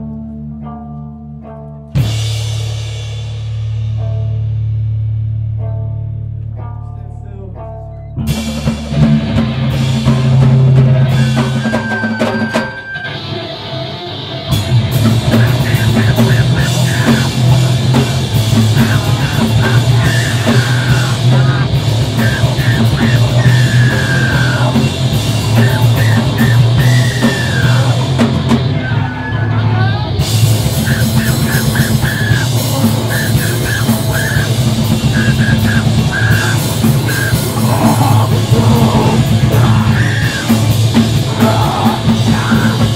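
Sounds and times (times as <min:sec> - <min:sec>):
screamo band playing live: 0:00.0 - 0:42.9.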